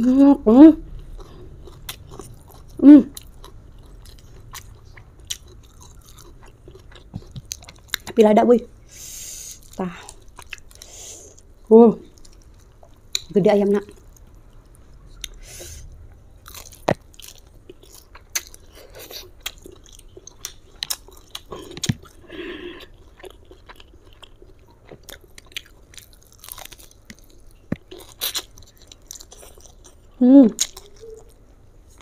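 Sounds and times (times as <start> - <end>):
chewing and crunching fried chicken: 0.8 - 8.9, 9.5 - 32.0.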